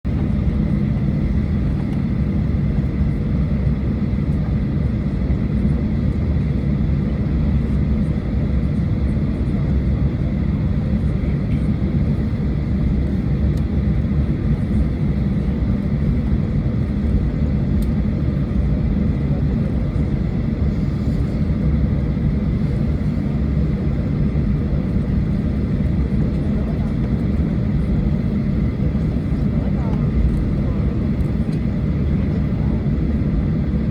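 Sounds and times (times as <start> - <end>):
jet engines running: 0.1 - 33.9.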